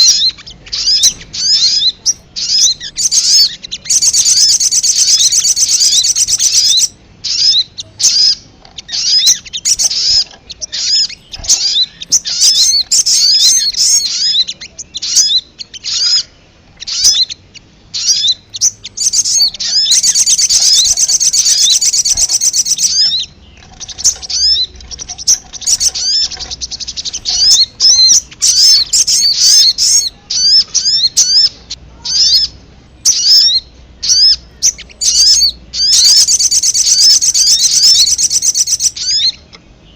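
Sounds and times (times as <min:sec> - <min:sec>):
bird fast trill: 0:00.0 - 0:39.5
bird chirping: 0:00.0 - 0:39.9.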